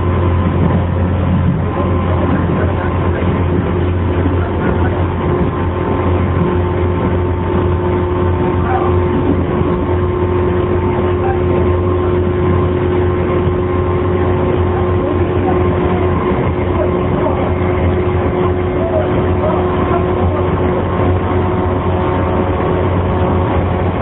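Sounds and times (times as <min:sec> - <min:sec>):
train motor hum: 0:00.0 - 0:24.0.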